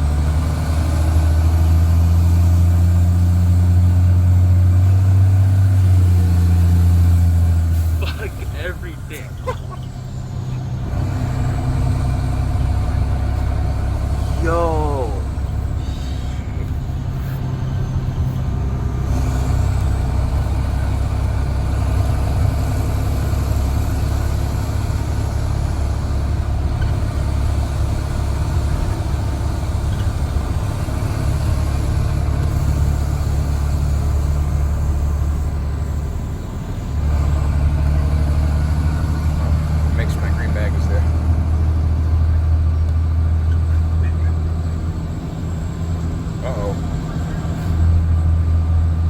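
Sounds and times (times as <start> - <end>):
bus diesel engine exhaust drone: 0.0 - 49.0.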